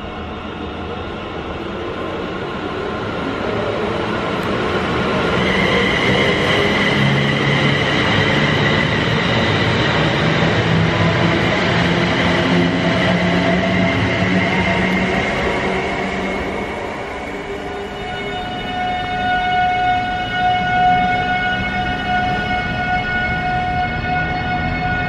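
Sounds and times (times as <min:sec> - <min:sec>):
steady high whine: 0:00.0 - 0:25.0
train rail and wheel noise: 0:00.0 - 0:25.0.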